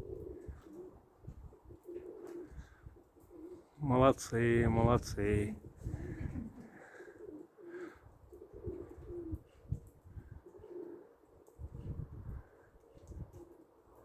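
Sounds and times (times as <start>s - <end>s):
pigeons cooing: 0.0s - 3.8s, 5.5s - 14.0s.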